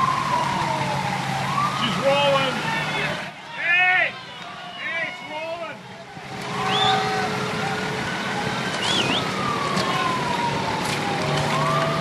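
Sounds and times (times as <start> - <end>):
fire truck siren wailing: 0.0 - 12.0
traffic: 0.0 - 12.0.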